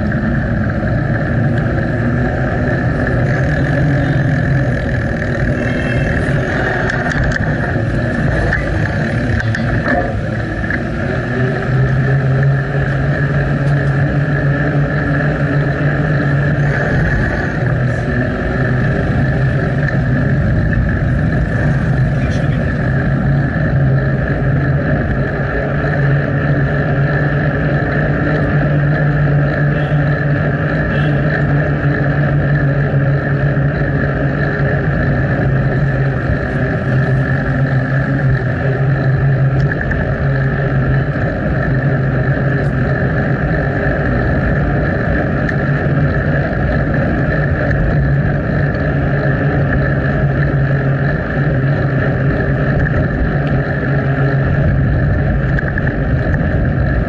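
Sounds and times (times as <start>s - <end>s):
bicycle riding noise: 0.0s - 57.0s
low hum: 0.0s - 57.0s.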